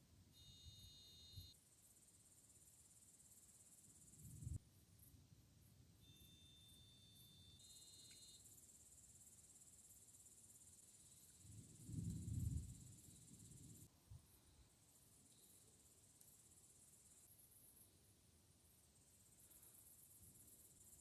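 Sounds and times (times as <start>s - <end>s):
insects chirring: 0.4s - 5.1s, 6.0s - 17.9s, 18.8s - 21.0s.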